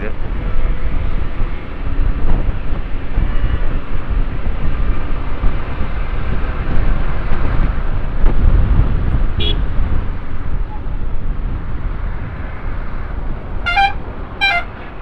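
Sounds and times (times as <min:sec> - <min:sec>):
motorcycle engine and road noise: 0:00.0 - 0:15.0
wind buffeting microphone: 0:00.0 - 0:15.0.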